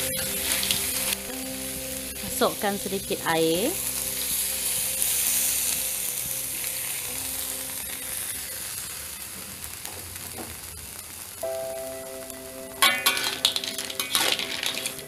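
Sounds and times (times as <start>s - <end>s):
water sizzling in hot wok: 0.0s - 15.0s.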